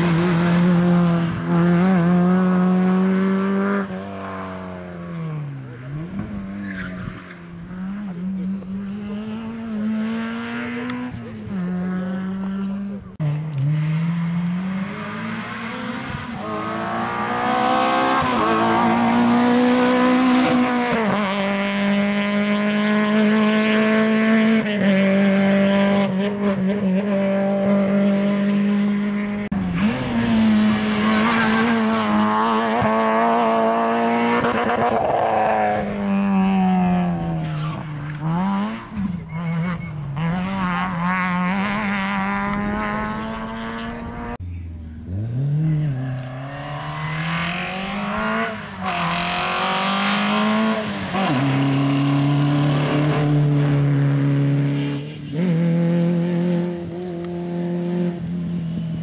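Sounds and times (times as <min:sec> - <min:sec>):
rally car engine revving hard: 0:00.0 - 0:44.4, 0:45.1 - 0:58.6.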